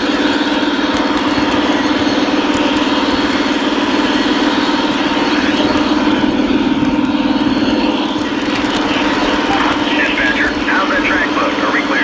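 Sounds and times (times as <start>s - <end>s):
model train motor humming: 0.0s - 12.0s.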